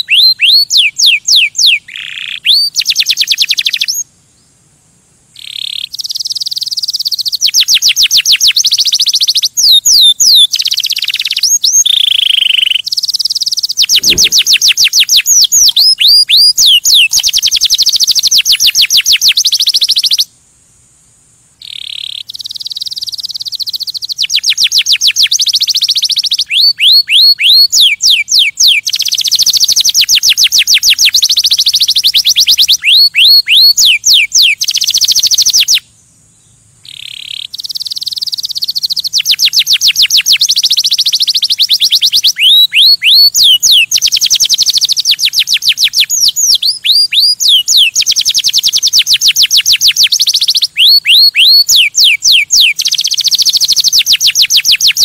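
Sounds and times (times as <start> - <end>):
canary singing trills: 0.0 - 4.5, 5.4 - 20.3, 21.6 - 55.0.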